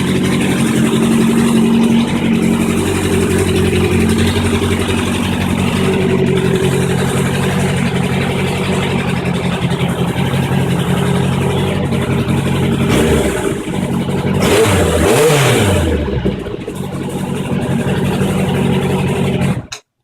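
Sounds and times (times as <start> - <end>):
motorcycle engine idling and revving: 0.0 - 19.9.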